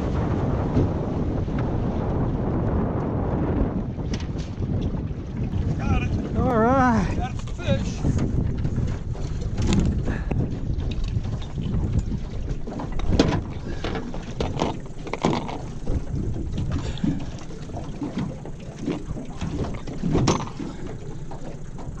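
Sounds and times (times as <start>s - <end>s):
water slapping boat: 0.0s - 22.0s
water sloshing against boat: 0.0s - 22.0s
wind rumble on microphone: 0.0s - 22.0s.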